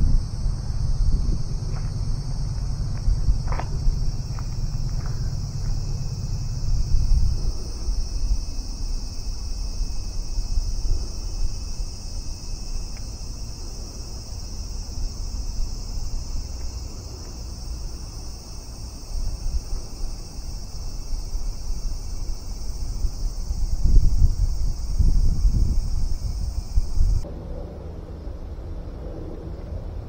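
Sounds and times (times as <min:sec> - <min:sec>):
insect chorus drone: 0:00.0 - 0:30.0
wind rumble on microphone: 0:00.0 - 0:30.0.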